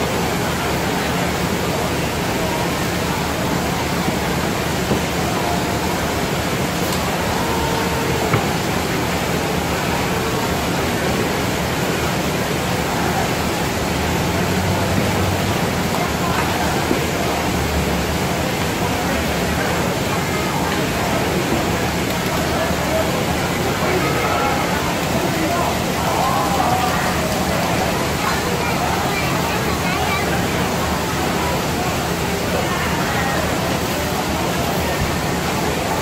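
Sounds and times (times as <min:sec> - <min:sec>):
constant background rush: 0:00.0 - 0:36.0
crowd chatter: 0:00.0 - 0:36.0.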